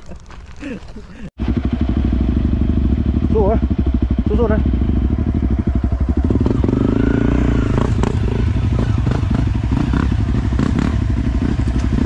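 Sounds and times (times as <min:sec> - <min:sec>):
dirt bike engine idling: 0:00.6 - 0:12.0.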